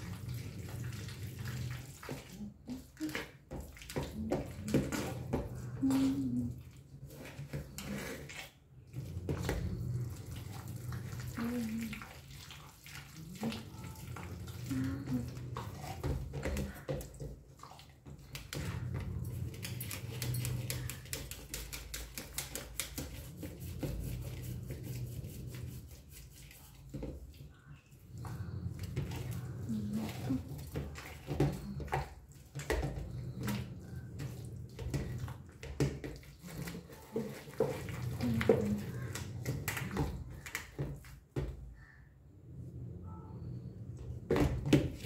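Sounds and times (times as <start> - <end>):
wet squelching and sloshing: 0.0 - 42.0.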